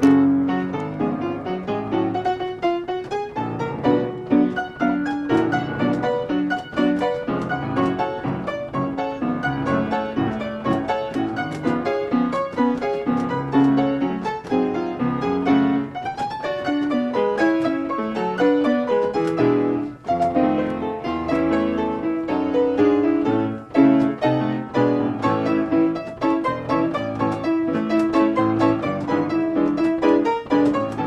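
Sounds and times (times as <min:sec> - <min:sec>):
player piano tune: 0:00.0 - 0:31.0.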